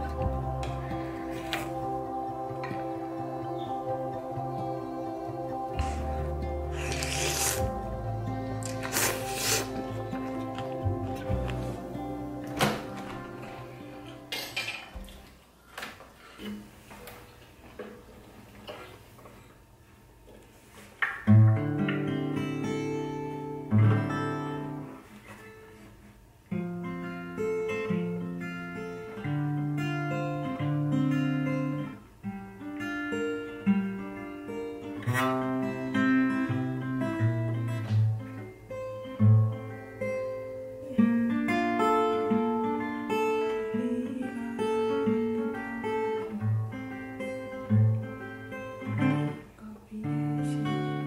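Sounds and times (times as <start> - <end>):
acoustic guitar fingerstyle: 0.0 - 15.4, 20.4 - 51.0.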